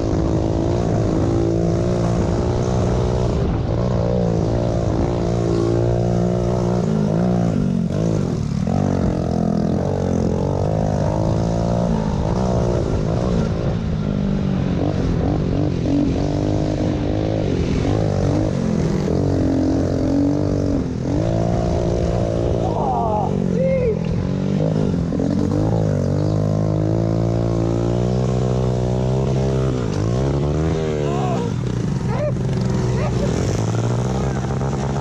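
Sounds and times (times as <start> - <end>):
pit bike engines revving: 0.0 - 35.0.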